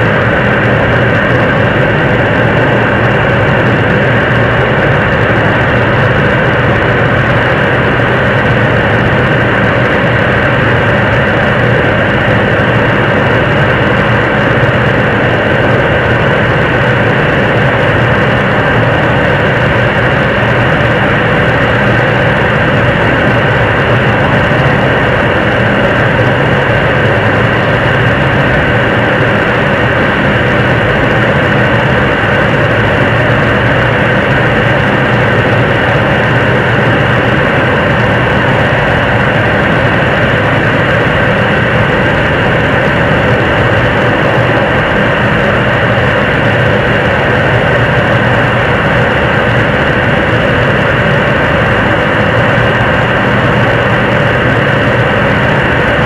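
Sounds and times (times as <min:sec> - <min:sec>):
rocket engine rushing roar: 0:00.0 - 0:56.0.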